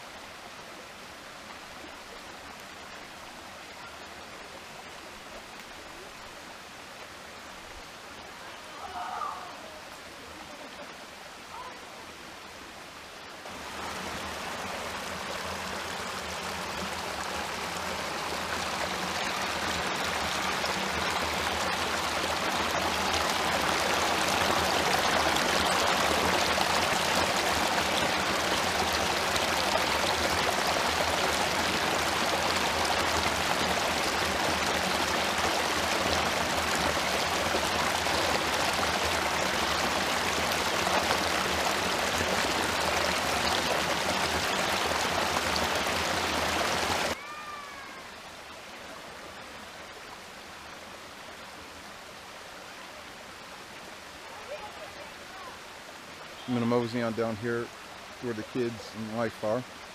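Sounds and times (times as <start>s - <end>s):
waterfall splashing: 8.0s - 59.9s.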